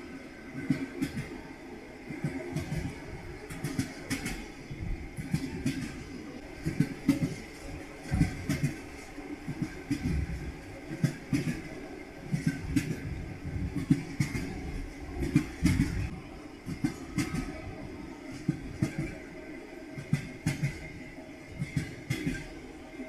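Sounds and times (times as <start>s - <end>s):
rolling rumble of train: 0.0s - 23.0s
train wheels clickety-clack: 0.0s - 23.0s.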